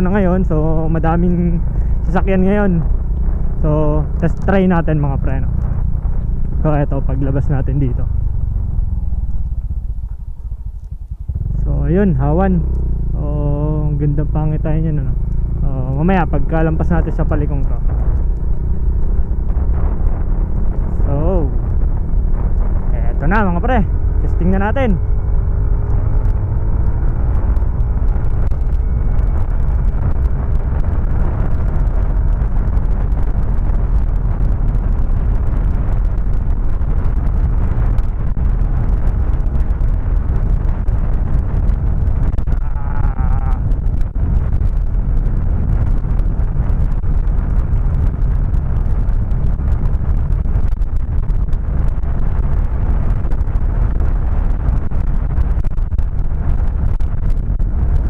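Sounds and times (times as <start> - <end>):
motorcycle engine at full throttle: 0.0 - 58.0
wind rush on microphone: 0.0 - 58.0.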